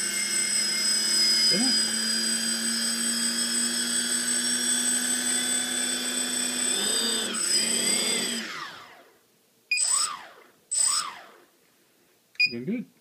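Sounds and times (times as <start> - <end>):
electric motors whining: 0.0 - 9.2, 9.8 - 11.4.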